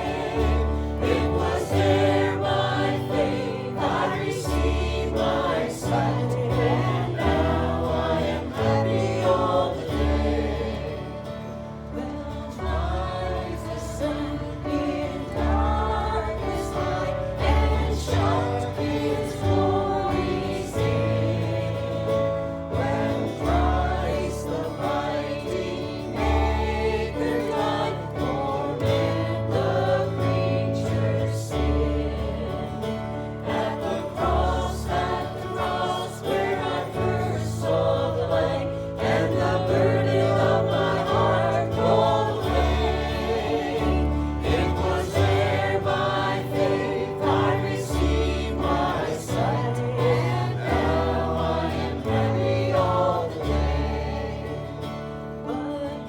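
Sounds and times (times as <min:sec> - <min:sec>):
choir singing a gospel hymn: 0:00.0 - 0:56.0.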